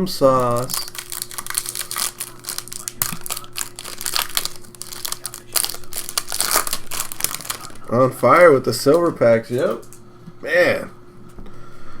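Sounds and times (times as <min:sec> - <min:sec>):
foil wrappers crinkling: 0:00.2 - 0:10.0.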